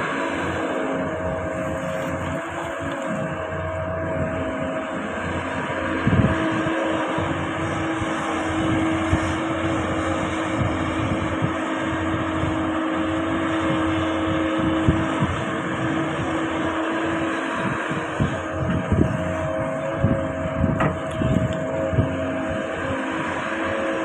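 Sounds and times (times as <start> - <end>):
excavator engine droning: 0.0 - 24.0.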